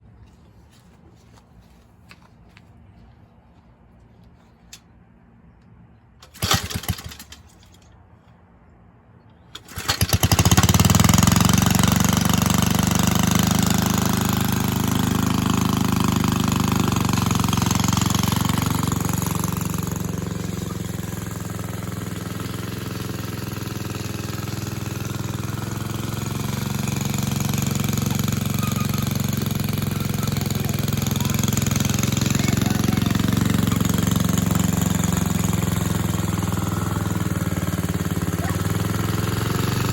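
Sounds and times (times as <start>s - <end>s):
lawn mower engine running: 6.1s - 8.5s, 9.3s - 39.9s.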